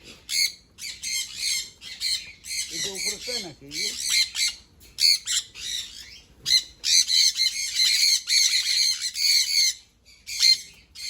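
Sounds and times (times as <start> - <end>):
parrots screeching: 0.3 - 11.0.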